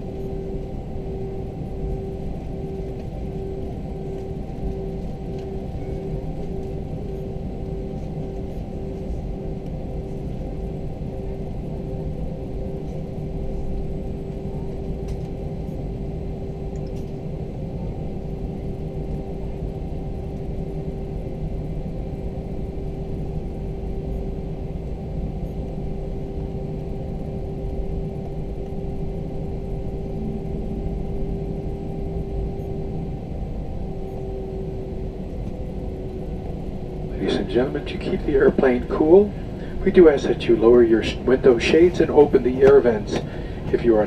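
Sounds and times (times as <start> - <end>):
constant humming tone: 0.0 - 44.0
jet engines idling rumble: 0.0 - 44.0.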